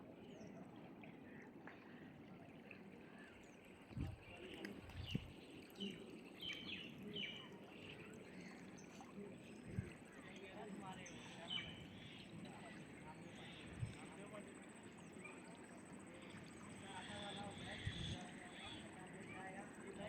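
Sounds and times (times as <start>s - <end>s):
birds chirping faintly: 0.1s - 20.0s.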